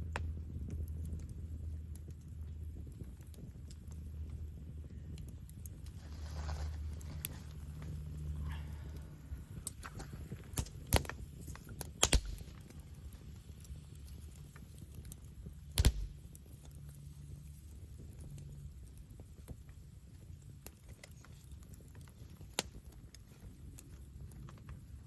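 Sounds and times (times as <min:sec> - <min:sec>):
burning wood popping: 0:00.0 - 0:25.0
campfire crackling: 0:00.0 - 0:25.0
low steady rumble: 0:00.0 - 0:25.0.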